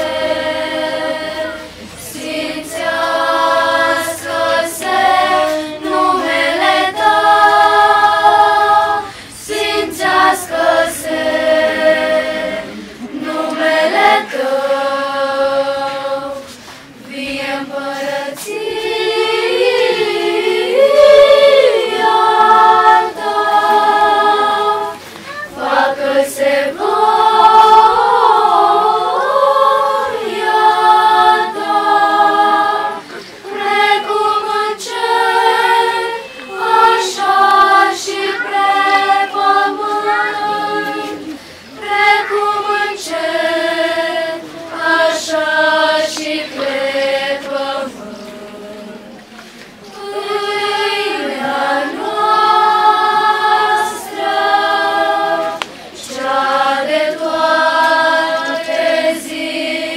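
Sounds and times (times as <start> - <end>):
girls' choir singing unaccompanied: 0.0 - 59.9.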